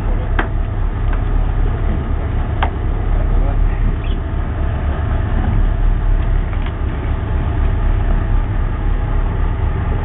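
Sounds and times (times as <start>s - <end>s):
boat engine idling: 0.0s - 10.0s
wind buffeting microphone: 0.0s - 10.0s.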